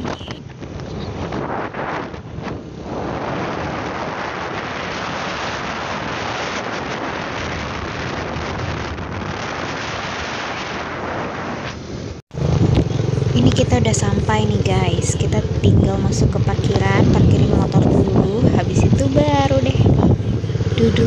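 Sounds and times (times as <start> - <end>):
motorcycle road noise: 0.0 - 21.0
wind buffeting microphone: 0.0 - 21.0.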